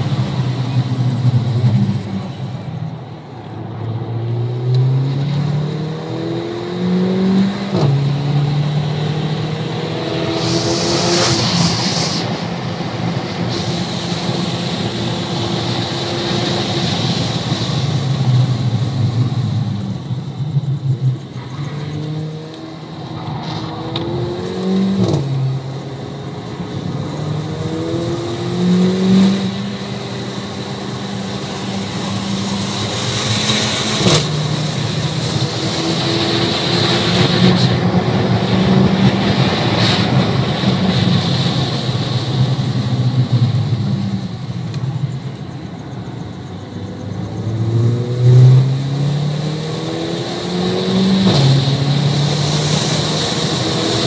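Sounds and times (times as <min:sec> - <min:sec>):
wind and tyre noise: 0:00.0 - 0:54.0
car engine revving through gears: 0:03.9 - 0:19.3, 0:21.1 - 0:44.0, 0:46.8 - 0:54.0.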